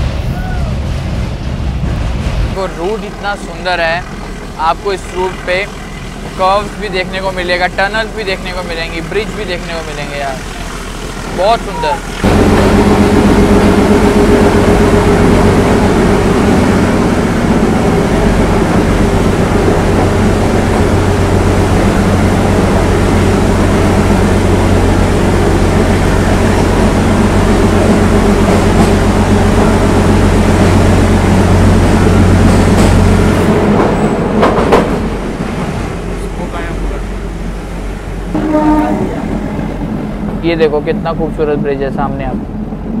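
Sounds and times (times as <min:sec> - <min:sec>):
diesel engine drone: 0:00.0 - 0:43.0
train wheels rumbling: 0:00.0 - 0:43.0.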